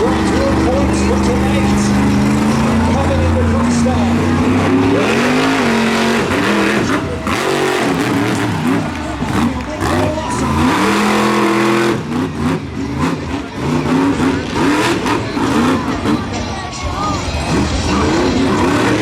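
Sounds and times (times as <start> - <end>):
truck engine revving hard: 0.0 - 19.0.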